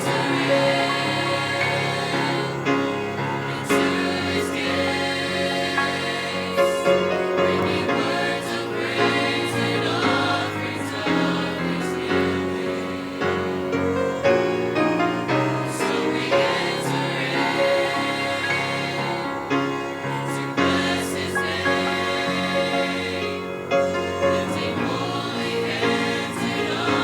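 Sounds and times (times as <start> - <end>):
choir singing gospel song: 0.0 - 27.0.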